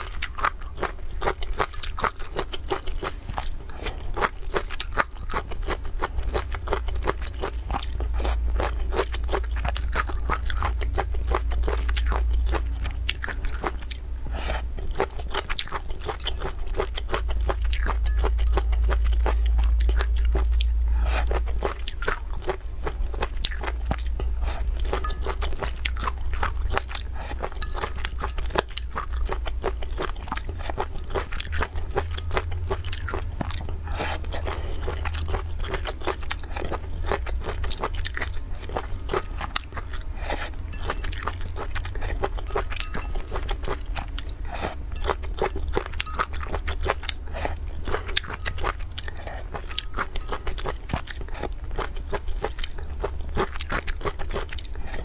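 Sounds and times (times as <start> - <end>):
chewing and crunching food: 0.0 - 55.0
steady low hum: 0.0 - 55.0.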